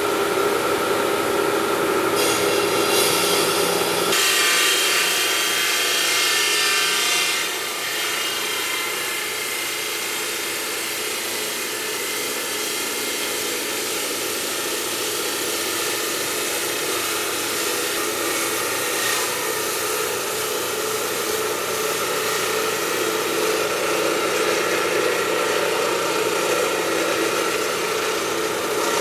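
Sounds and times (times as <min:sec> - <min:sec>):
stone-working machinery running: 0:00.0 - 0:29.0.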